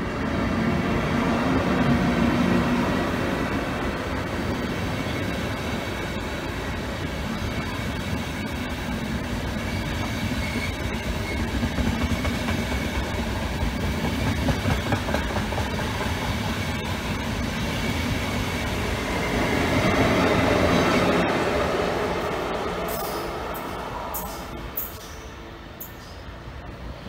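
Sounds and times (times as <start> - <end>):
electric locomotive passing: 0.0 - 27.0
train wheels rumbling on rails: 0.0 - 27.0.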